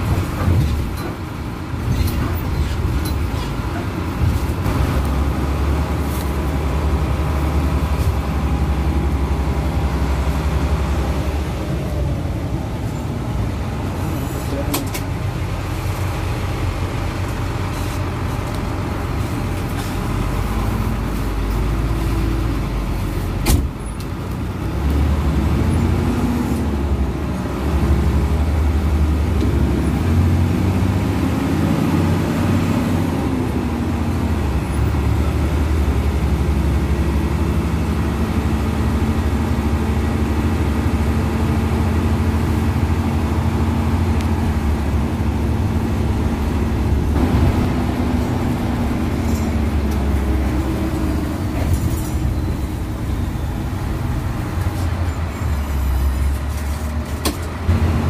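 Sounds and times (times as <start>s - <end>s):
bus diesel engine revving: 0.0s - 58.0s.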